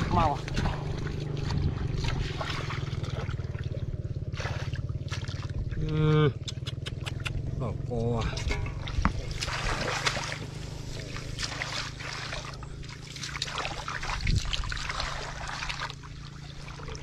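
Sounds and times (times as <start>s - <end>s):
hands sloshing in muddy water: 0.0s - 7.6s, 8.3s - 17.0s
small splashes and trickles: 0.0s - 17.0s.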